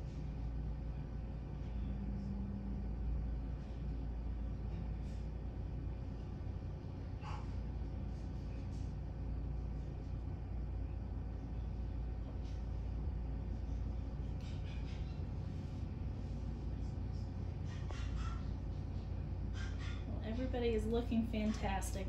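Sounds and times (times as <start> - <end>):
low room and equipment hum: 0.0 - 22.0.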